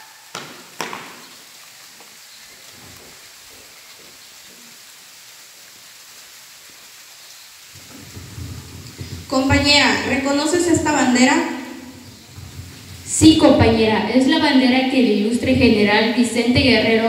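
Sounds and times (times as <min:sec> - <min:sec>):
low background hiss: 0:00.0 - 0:17.0.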